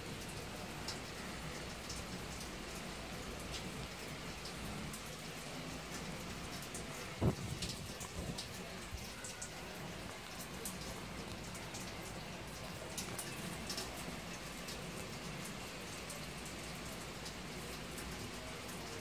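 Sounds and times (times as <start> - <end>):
raindrops ticking: 0.0 - 19.0
steady rain falling: 0.0 - 19.0.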